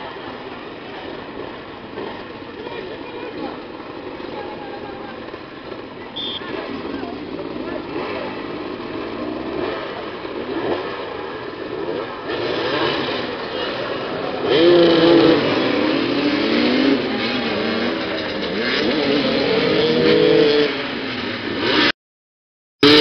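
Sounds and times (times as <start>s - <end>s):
motorcycles revving: 0.0s - 22.0s, 22.8s - 23.0s.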